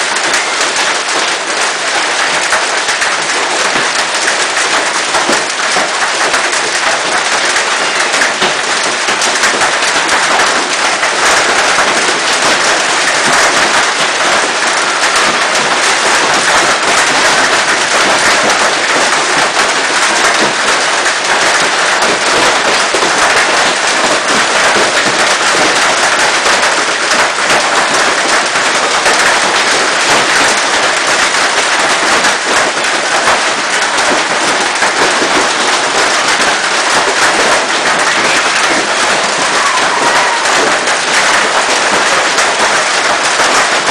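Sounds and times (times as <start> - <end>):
hail clattering: 0.0 - 43.9.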